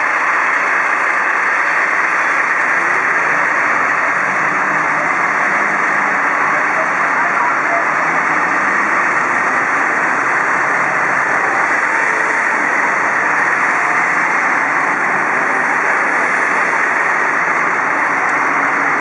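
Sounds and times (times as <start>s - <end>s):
fire engines idling: 0.0s - 19.0s
road traffic passing: 0.0s - 19.0s.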